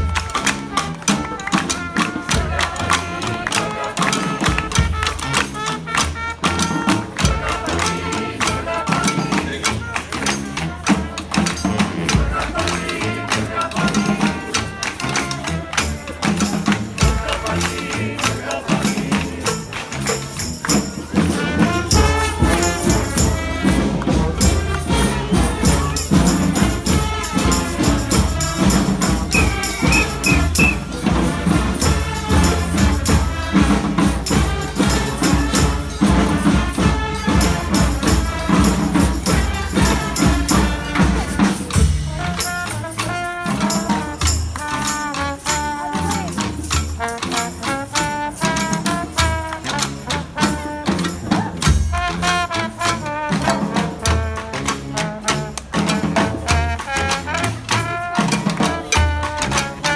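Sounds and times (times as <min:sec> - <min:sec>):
brass band playing salsa: 0:00.0 - 0:59.9
drums and tambourine beat: 0:00.0 - 0:59.9.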